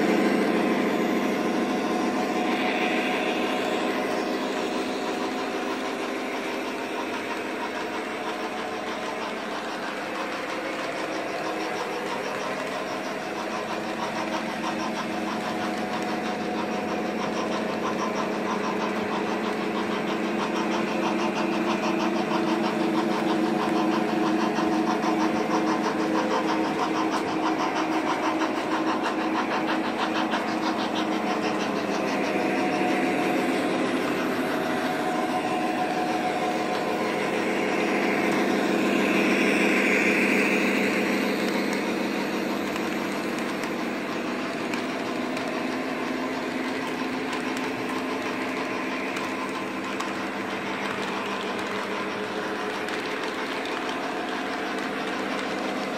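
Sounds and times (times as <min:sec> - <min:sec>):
model diesel engine sound effect: 0:00.0 - 0:55.9
model train wheels clattering on track: 0:00.0 - 0:55.9.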